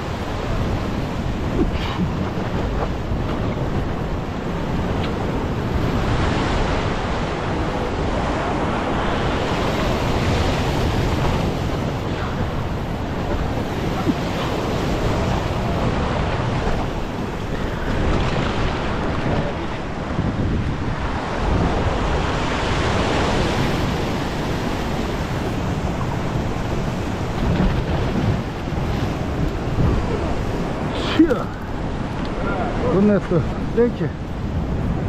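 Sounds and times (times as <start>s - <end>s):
surf washing over rocks: 0.0s - 35.0s
wind buffeting microphone: 0.0s - 35.0s.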